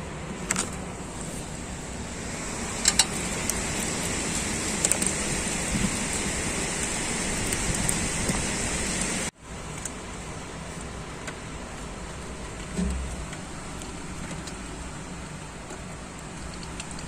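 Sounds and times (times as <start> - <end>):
heavy rain falling: 0.8 - 17.0.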